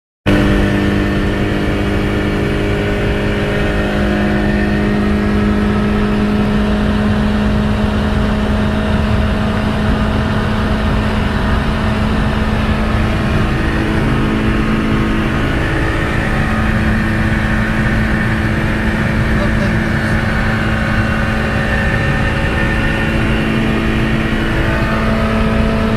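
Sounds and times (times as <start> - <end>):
car engine at high revs: 0.3 - 25.9
loud rush of noise: 0.3 - 25.9.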